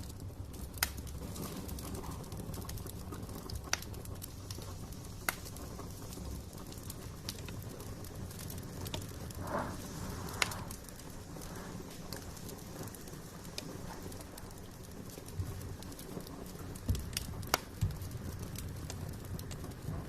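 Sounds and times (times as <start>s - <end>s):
low rumble of flames: 0.0s - 20.0s
sharp pops of fire: 0.0s - 20.0s
wood fire crackling: 0.0s - 20.0s.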